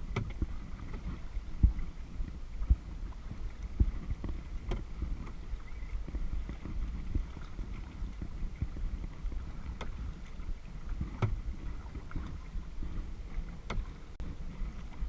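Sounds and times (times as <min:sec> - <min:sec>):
paddle knocks: 0:00.0 - 0:15.0
water lapping around kayak hull: 0:00.0 - 0:15.0
wind rumble on microphone: 0:00.0 - 0:15.0.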